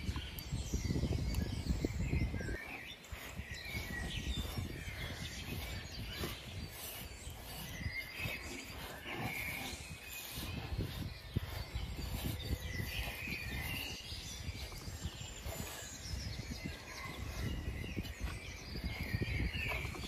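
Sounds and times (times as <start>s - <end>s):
birds chirping faintly: 0.0s - 20.0s
hand kneading gritty mixture: 0.0s - 20.0s.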